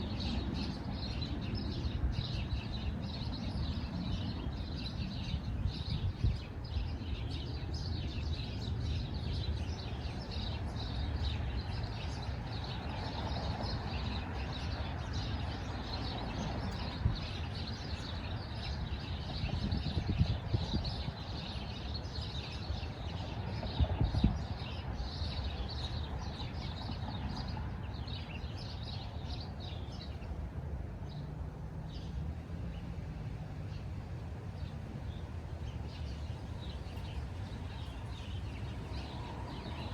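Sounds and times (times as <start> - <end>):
small birds chirping: 0.0 - 31.3, 31.9 - 39.9.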